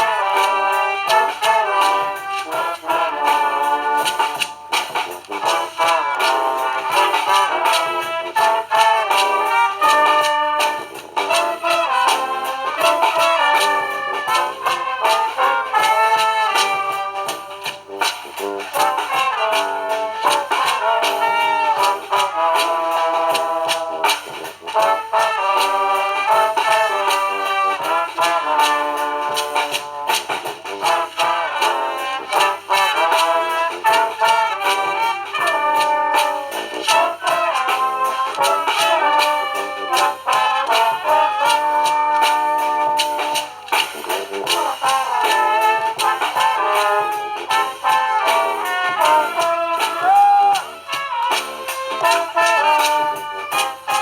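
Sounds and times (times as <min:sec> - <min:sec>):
brass band horns: 0:00.0 - 0:54.0
sharp percussion strikes: 0:00.0 - 0:54.0
trumpets and trombones melody: 0:00.0 - 0:54.0.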